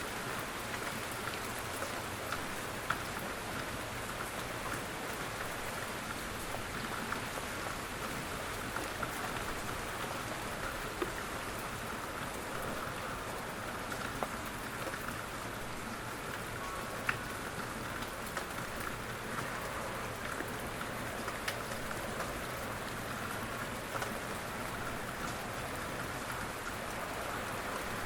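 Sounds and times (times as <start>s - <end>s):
gentle rain falling: 0.0s - 28.0s.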